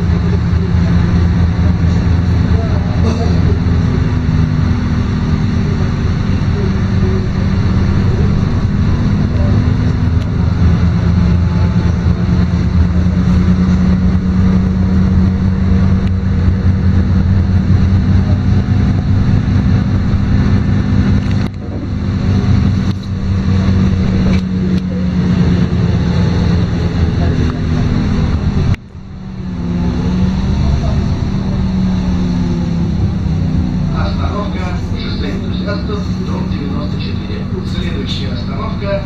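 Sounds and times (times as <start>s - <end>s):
bus diesel engine drone: 0.0s - 39.0s
road noise: 0.0s - 39.0s.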